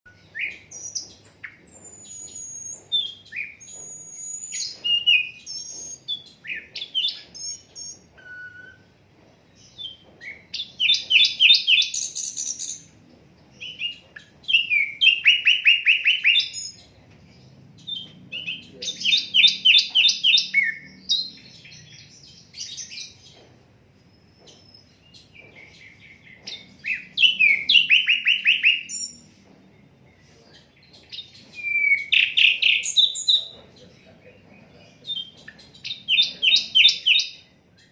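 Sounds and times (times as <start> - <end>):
flycatcher singing: 0.1 - 9.0, 9.6 - 23.4, 24.0 - 37.9
rapidly repeated bird chirps: 0.1 - 37.9.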